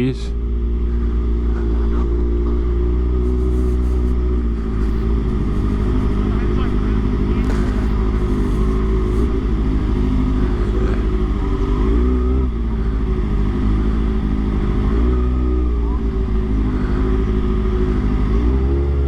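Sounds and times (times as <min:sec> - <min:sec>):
motorcycle engine revving: 0:00.0 - 0:19.0
wind and road rumble: 0:00.0 - 0:19.0.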